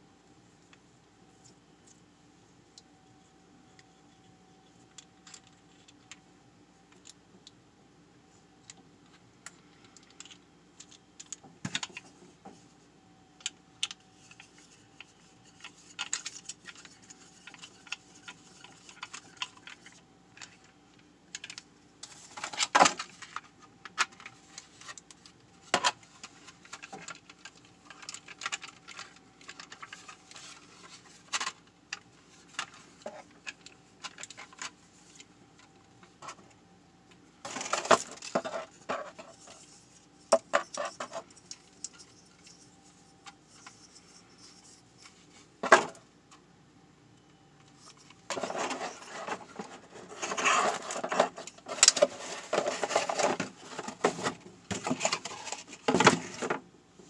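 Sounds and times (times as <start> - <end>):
faint steady hum: 0.0 - 57.0
small parts clicking and rattling: 3.7 - 6.2, 8.6 - 12.1, 13.4 - 46.4, 47.6 - 56.6.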